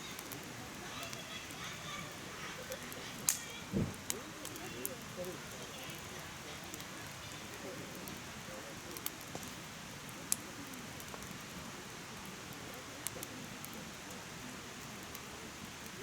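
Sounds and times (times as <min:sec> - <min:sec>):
logs crackling pops: 0:00.0 - 0:08.2, 0:08.8 - 0:11.5, 0:12.2 - 0:14.2, 0:14.9 - 0:16.0
fire rushing: 0:02.1 - 0:16.0.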